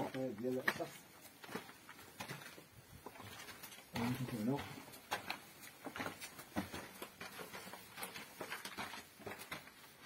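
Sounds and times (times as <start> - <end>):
footsteps on gritty stone floor: 0.0 - 10.0.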